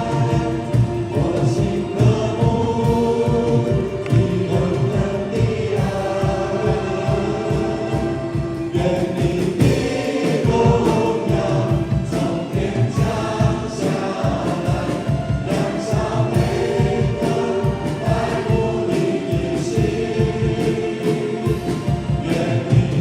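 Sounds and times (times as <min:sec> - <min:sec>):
group singing praise song: 0:00.0 - 0:23.0
keyboard and band: 0:00.0 - 0:23.0.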